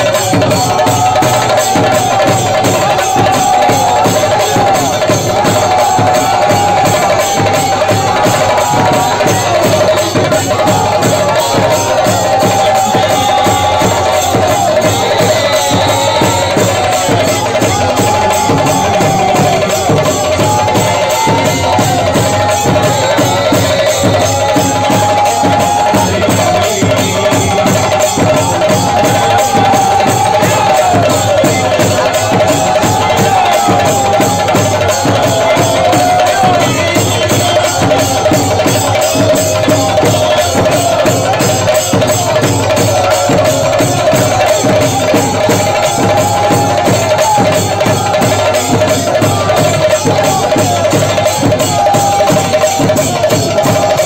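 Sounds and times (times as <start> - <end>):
fast steady drumming: 0.0 - 54.0.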